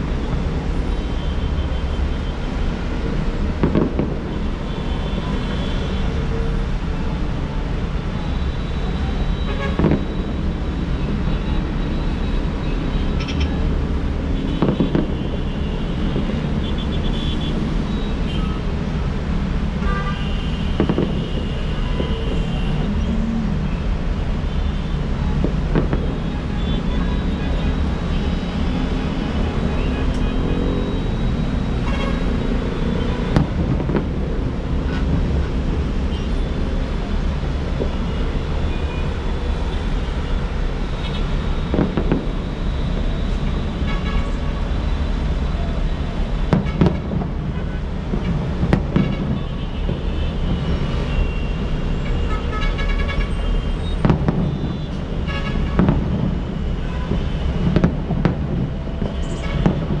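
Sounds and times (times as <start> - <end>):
city street traffic rumble: 0.0 - 60.0.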